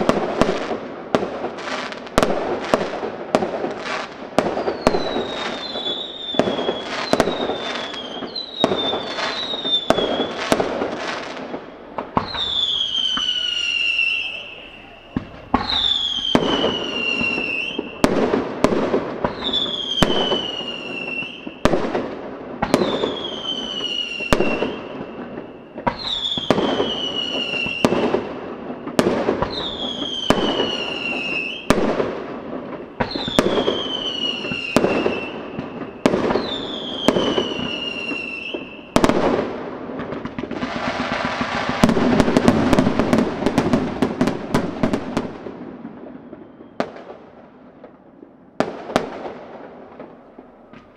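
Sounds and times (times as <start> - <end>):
firework whistles: 0.0 - 39.6, 40.2 - 45.4, 46.1 - 47.1
crackling firework pops: 0.0 - 50.9
firework bangs: 0.0 - 50.9.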